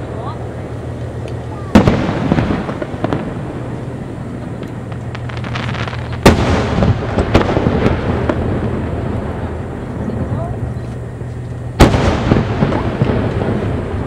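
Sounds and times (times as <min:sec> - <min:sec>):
fireworks crackling: 0:00.0 - 0:14.0
steady low hum: 0:00.0 - 0:14.0
fireworks bangs: 0:00.9 - 0:14.0.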